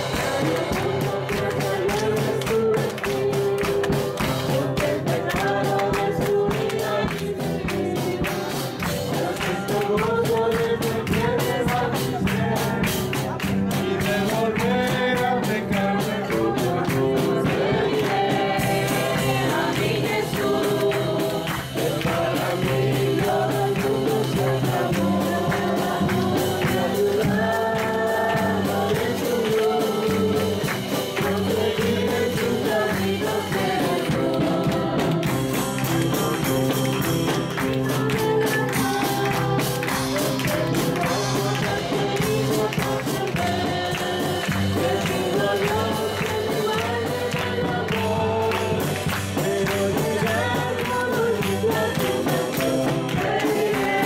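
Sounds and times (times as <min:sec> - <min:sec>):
congregation singing gospel: 0:00.0 - 0:54.0
instrumental backing: 0:00.0 - 0:54.0
tambourine beat: 0:00.0 - 0:54.0.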